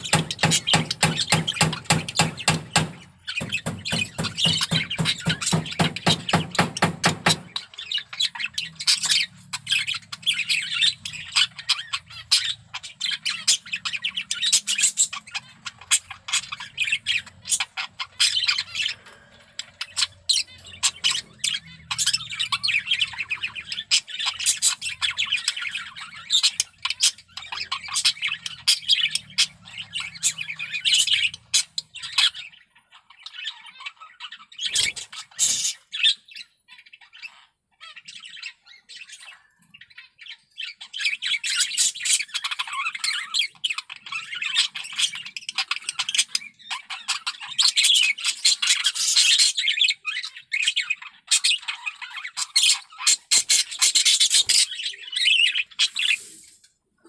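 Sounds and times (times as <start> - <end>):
budgerigar warbling and chattering: 0.0 - 56.5.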